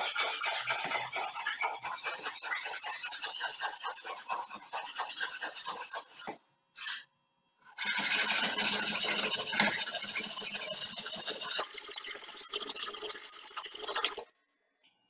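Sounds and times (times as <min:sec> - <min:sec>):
file scraping steel blade: 0:00.0 - 0:07.1, 0:07.7 - 0:13.3.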